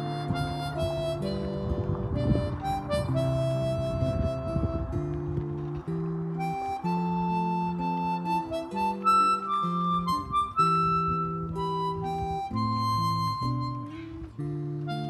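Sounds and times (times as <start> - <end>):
acoustic guitar: 0.0 - 15.0
harmonica slow melody: 0.0 - 15.0.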